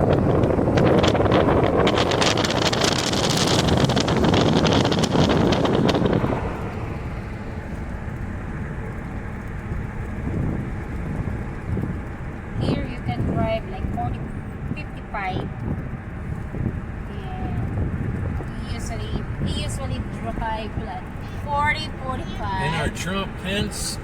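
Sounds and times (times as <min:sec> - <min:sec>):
wind buffeting on microphone: 0:00.0 - 0:22.6
car road noise: 0:00.0 - 0:24.0.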